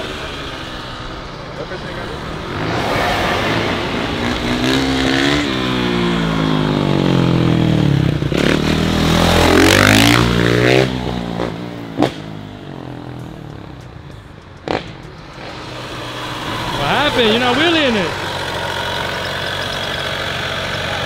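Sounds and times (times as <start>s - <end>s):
dirt bike engine revving: 0.0s - 13.1s, 14.6s - 21.0s.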